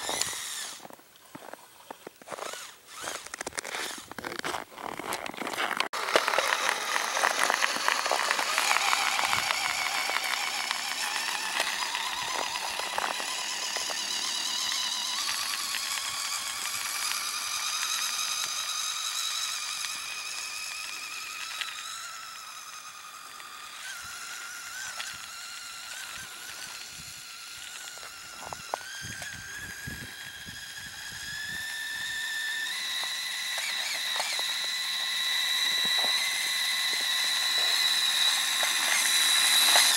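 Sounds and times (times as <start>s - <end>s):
motor high-pitched whine: 0.0s - 39.9s.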